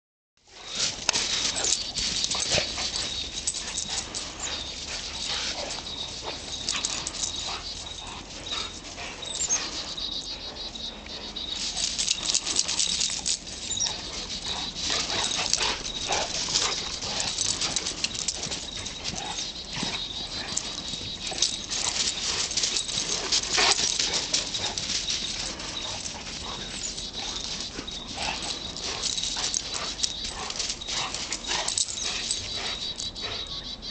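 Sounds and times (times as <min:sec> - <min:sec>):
dogs play-fighting: 0:00.5 - 0:33.9.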